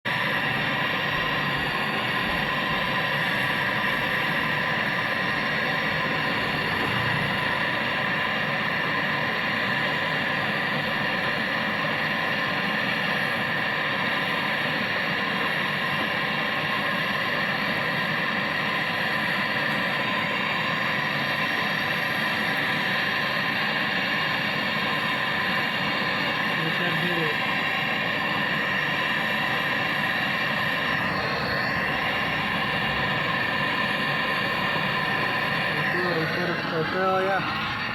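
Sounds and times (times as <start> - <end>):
torch flame hissing: 0.1 - 37.9.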